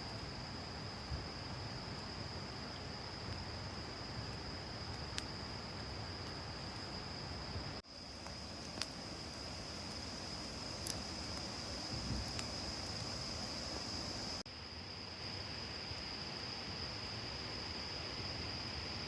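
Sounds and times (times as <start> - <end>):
insects trilling: 0.0 - 19.0
soft outdoor hiss: 0.0 - 19.0.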